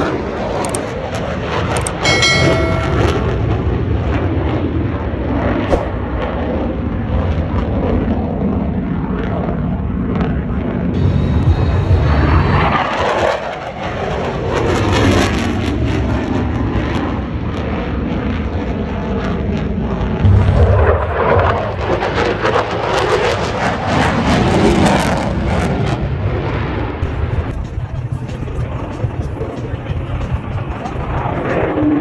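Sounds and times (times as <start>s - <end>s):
fighter jet flying past: 0.0s - 32.0s.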